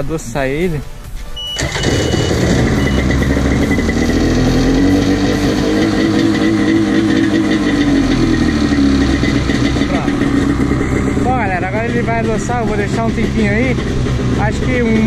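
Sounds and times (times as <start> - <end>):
jet ski engine idling: 1.6 - 15.0.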